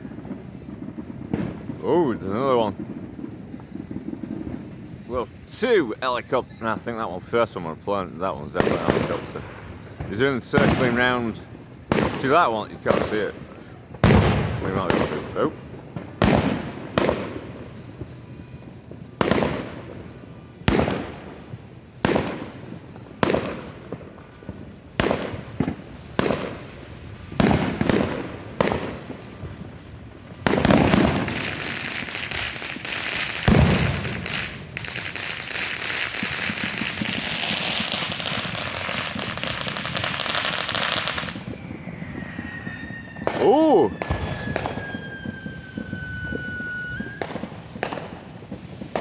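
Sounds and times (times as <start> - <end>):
firework bangs: 0.0 - 49.0
fireworks crackling barrage: 0.0 - 49.0.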